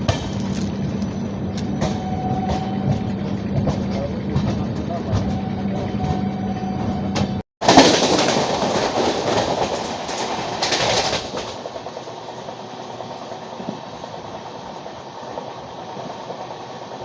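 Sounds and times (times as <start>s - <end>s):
train clickety-clack on rails: 0.0s - 17.0s.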